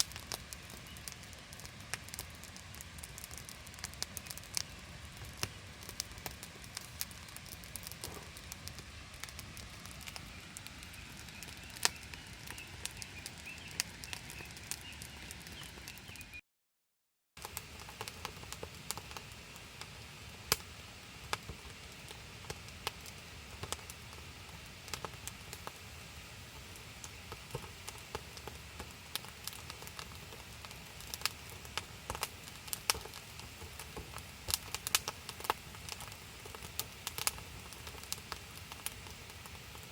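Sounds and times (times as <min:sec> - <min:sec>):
campfire crackling: 0:00.0 - 0:16.3, 0:17.4 - 0:39.9.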